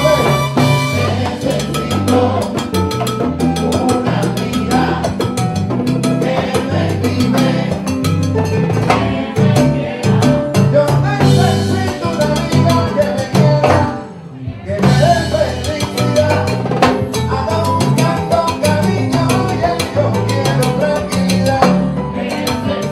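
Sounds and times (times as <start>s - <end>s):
congas: 0.0s - 22.9s
electric bass line: 0.0s - 22.9s
salsa band playing: 0.0s - 22.9s.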